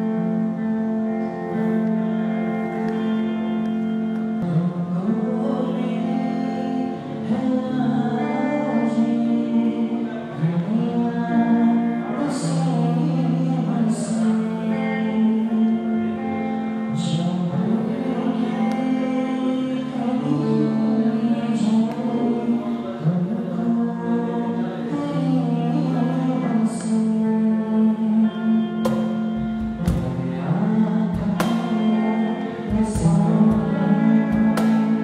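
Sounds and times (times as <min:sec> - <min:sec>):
electric guitar chords: 0:00.0 - 0:35.0
man singing into a microphone: 0:04.4 - 0:35.0.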